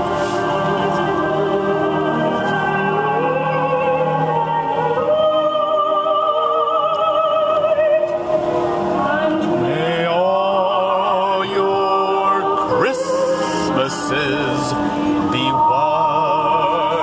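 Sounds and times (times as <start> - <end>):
operatic singing with vibrato: 0.0 - 17.0.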